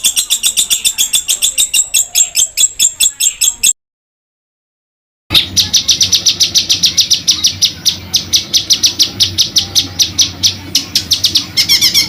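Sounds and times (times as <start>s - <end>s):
songbird rapid chirps and trill: 0.0s - 3.8s, 5.3s - 12.0s.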